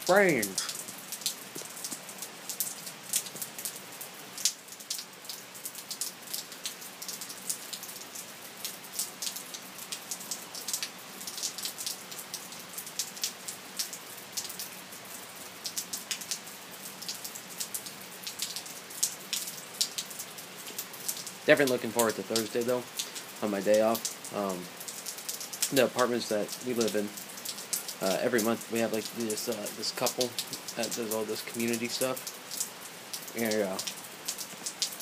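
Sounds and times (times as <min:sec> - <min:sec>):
rain falling: 0:00.0 - 0:35.0
raindrops striking close by: 0:00.0 - 0:35.0.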